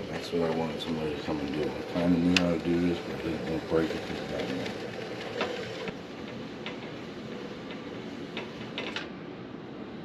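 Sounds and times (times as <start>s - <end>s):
reel winding mechanical whir: 0.0s - 9.1s.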